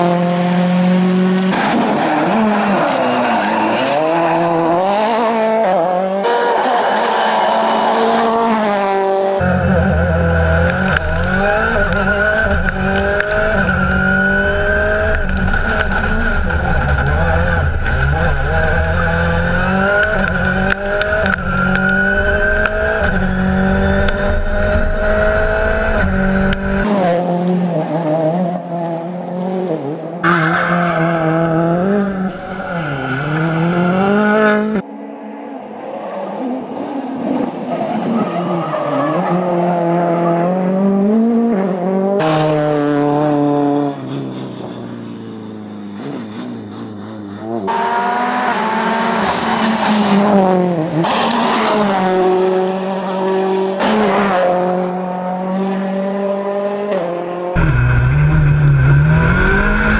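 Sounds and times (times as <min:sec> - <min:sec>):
rally car engine at full throttle: 0:00.0 - 0:59.9.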